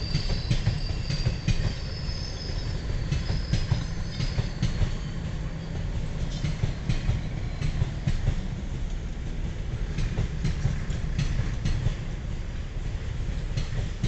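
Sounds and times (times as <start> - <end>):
wheels clicking on rail joints: 0.0 - 12.4
train coaches rumbling: 0.0 - 14.0.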